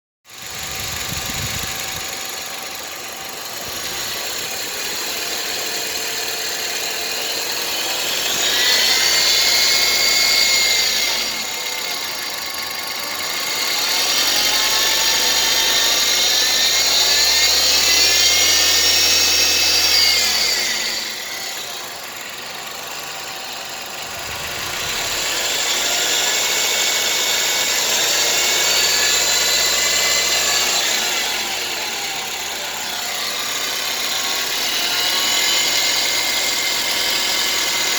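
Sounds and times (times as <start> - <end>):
engine revving: 0.4 - 37.9.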